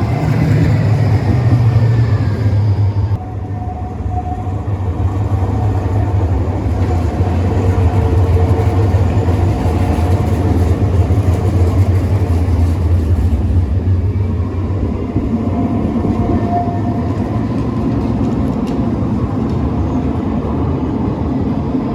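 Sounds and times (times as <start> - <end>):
tram rumbling on rails: 0.0 - 21.9.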